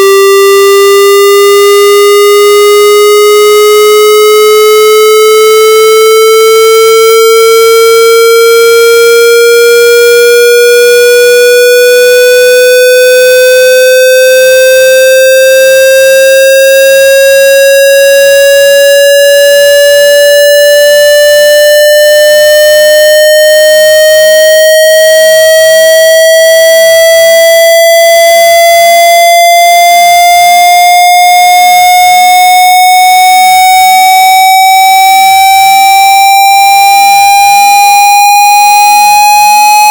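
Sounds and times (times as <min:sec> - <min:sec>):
square-wave tone rising in pitch: 0:06.6 - 0:39.9.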